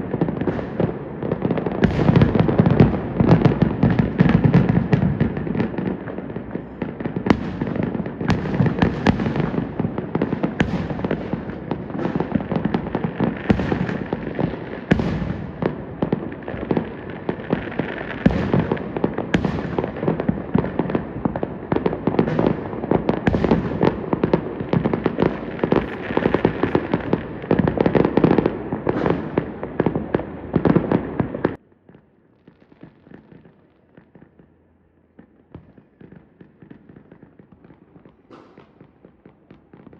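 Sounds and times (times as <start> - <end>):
firework crackling: 0.0 - 39.9
fireworks bangs: 0.0 - 39.9.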